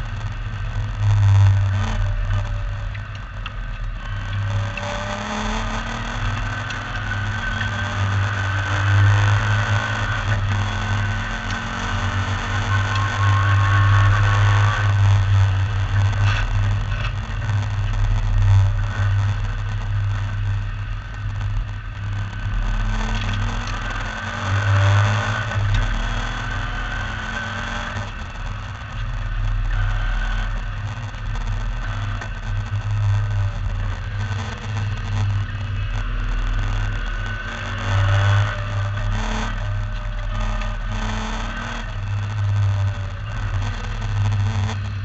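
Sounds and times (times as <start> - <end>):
heavy low rumble: 0.0 - 45.0
race car engine at speed: 0.0 - 45.0.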